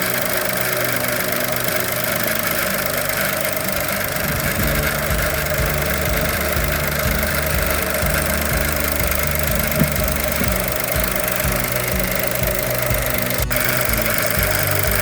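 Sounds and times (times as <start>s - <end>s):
car engine rattling: 0.0s - 15.0s
low engine rumble: 0.0s - 15.0s.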